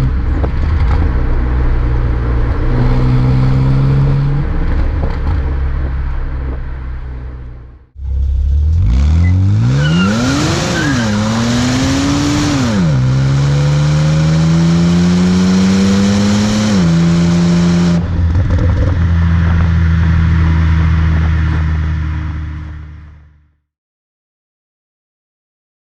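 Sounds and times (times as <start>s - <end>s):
car engine accelerating through gears: 0.0s - 7.4s, 8.0s - 23.0s.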